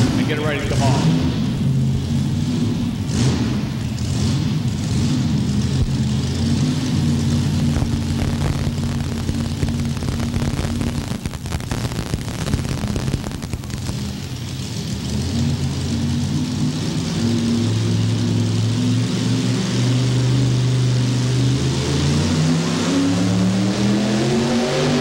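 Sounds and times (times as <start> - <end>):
tractor engine idling: 0.0 - 21.2.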